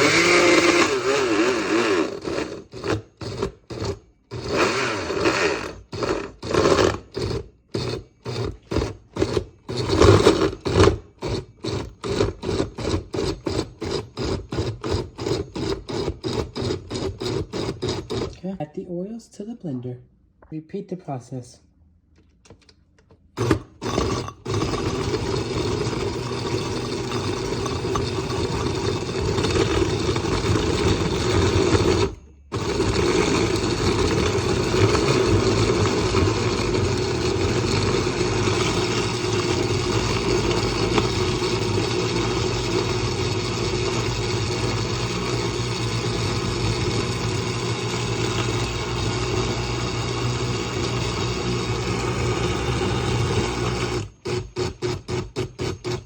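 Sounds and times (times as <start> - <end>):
electric blender running: 0.0 - 18.4, 23.4 - 56.0.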